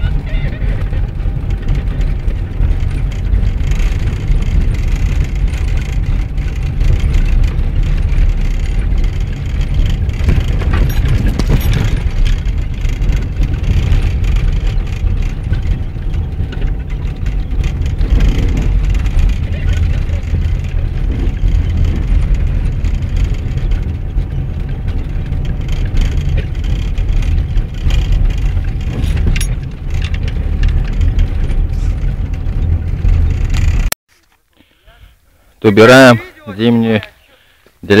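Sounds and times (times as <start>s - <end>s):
engine and tyre rumble: 0.0s - 38.0s
knocks from bumps: 1.2s - 33.9s.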